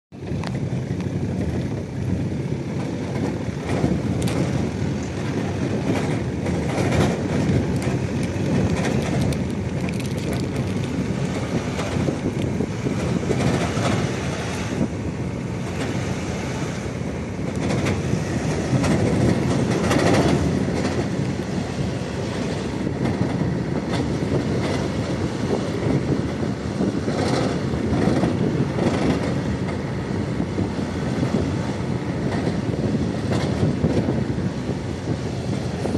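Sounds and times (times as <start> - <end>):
trailers clanking and knocking: 0.2 - 35.9.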